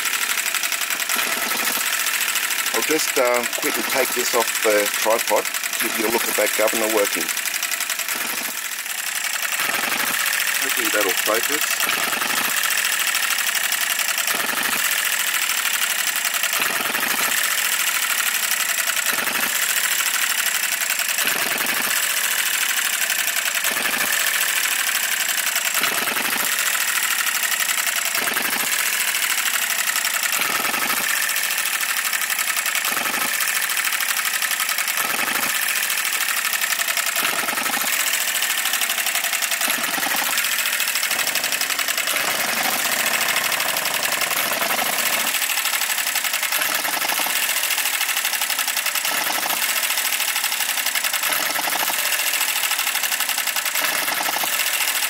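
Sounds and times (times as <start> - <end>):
small engine clattering and firing: 0.0 - 55.0.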